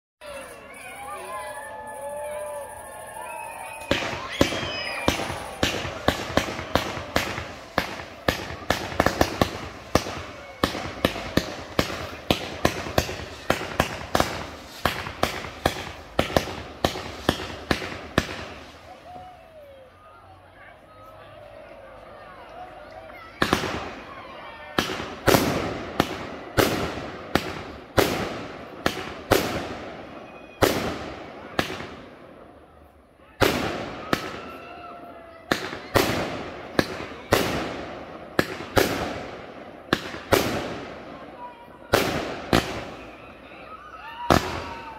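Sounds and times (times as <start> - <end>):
fireworks bangs with echo: 3.2 - 19.2, 23.4 - 32.6, 33.3 - 44.9.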